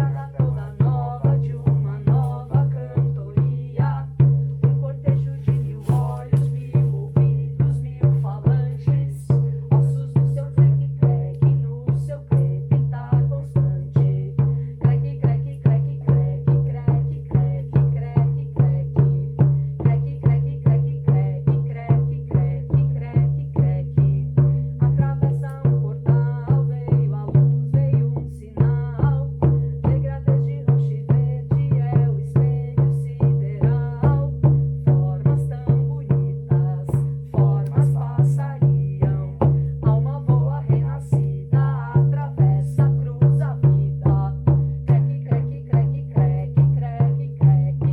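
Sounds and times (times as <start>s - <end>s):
steady drum beat: 0.0s - 47.9s.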